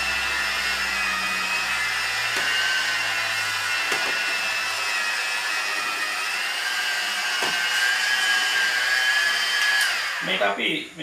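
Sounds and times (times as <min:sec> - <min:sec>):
rotary polisher motor whine: 0:00.0 - 0:10.6.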